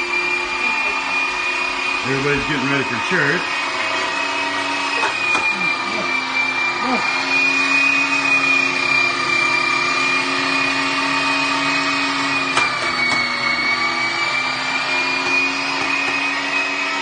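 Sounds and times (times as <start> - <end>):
meat grinder motor whining: 0.0 - 17.0.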